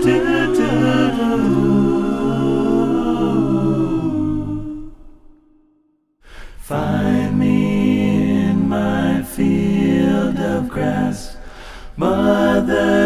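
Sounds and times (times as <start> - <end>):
a cappella vocal harmony: 0.0 - 13.0.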